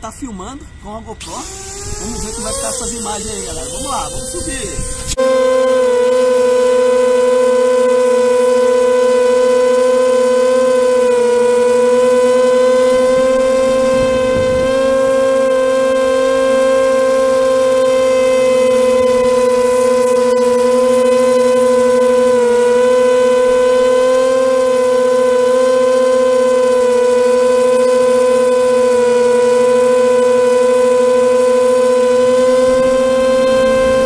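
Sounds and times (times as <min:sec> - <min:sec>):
electric plane motors whining: 0:00.4 - 0:34.0.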